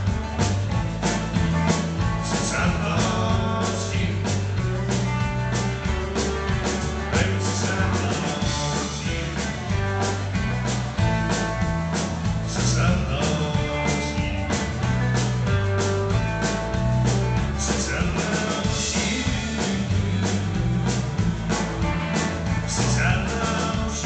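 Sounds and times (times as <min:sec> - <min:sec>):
bass guitar: 0:00.0 - 0:24.0
drum kit beat: 0:00.0 - 0:24.0
electric and acoustic guitars: 0:00.0 - 0:24.0.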